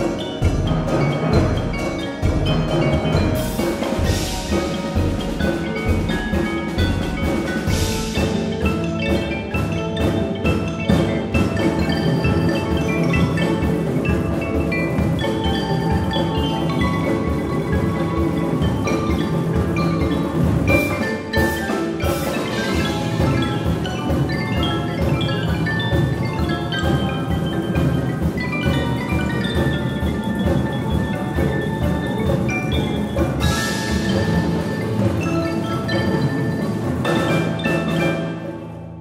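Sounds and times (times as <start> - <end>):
steady drum pulse: 0.0 - 38.2
mallet percussion runs: 0.0 - 39.0.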